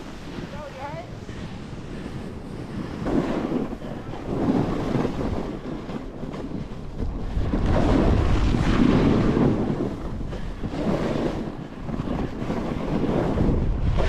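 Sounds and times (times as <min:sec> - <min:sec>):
snowboard sliding over snow: 0:00.0 - 0:14.0
wind buffeting microphone: 0:00.0 - 0:14.0.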